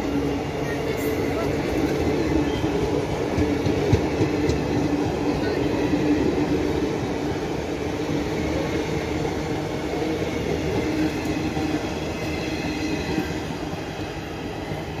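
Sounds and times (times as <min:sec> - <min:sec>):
train wheels rumbling on track: 0:00.0 - 0:15.0
train whining tone: 0:00.0 - 0:15.0.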